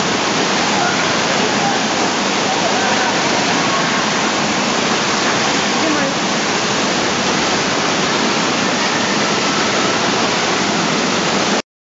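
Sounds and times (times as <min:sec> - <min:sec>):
waves splashing in a pool: 0:00.0 - 0:11.6.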